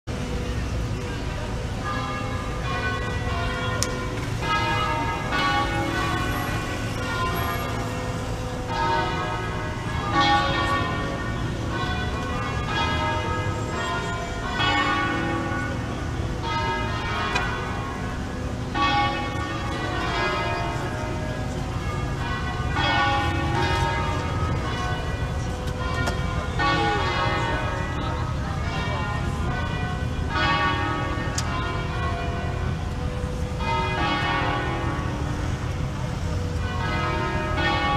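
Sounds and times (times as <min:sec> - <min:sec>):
low rumble of city traffic: 0:00.0 - 0:37.9
bells ringing: 0:00.1 - 0:37.9.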